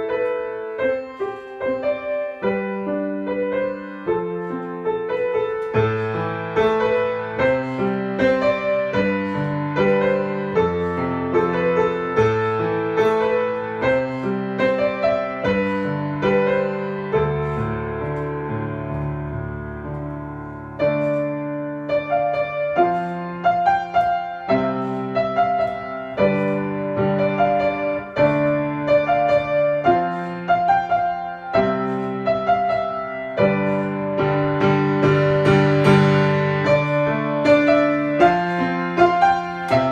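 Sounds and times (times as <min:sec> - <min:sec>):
piano chords: 0:00.0 - 0:39.9.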